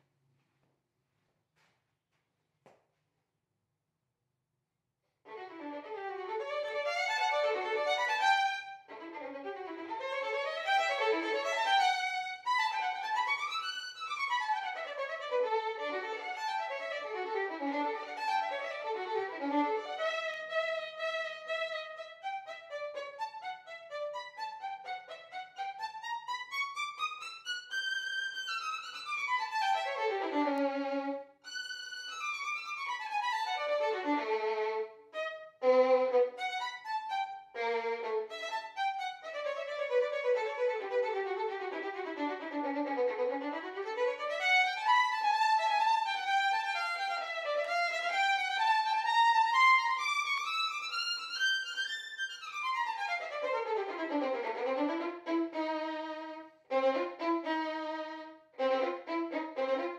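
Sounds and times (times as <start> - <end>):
solo violin playing scales: 5.3 - 59.9.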